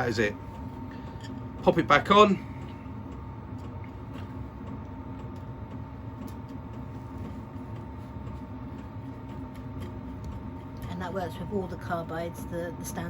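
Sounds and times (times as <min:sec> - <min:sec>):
background hum with high tone: 0:00.0 - 0:13.0.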